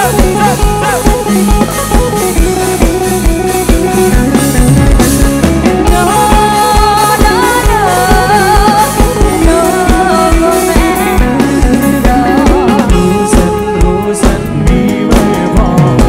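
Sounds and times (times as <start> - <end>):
person singing with vibrato: 0.0 - 3.6, 5.8 - 16.0
guitar: 0.0 - 16.0.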